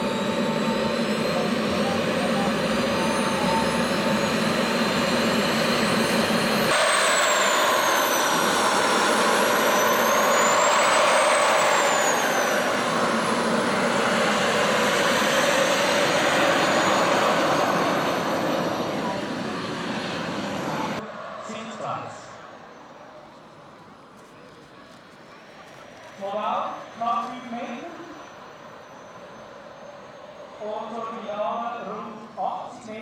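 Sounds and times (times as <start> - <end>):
jet turbines roaring: 0.0 - 33.0.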